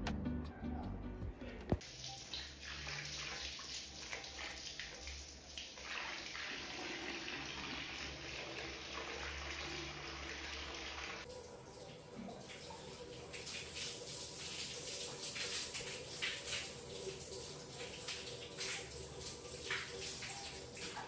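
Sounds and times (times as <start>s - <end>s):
water running: 1.8s - 21.0s.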